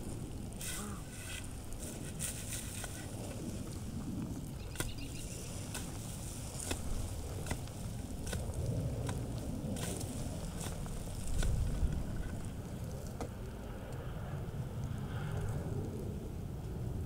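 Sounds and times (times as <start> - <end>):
low wind rumble on microphone: 0.0 - 17.0.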